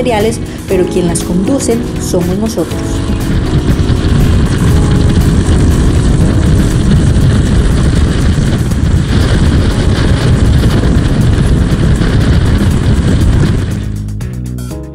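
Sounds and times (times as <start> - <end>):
road noise: 0.0 - 14.2
wind buffeting microphone: 0.0 - 14.2
motorcycle engine running: 0.0 - 14.5.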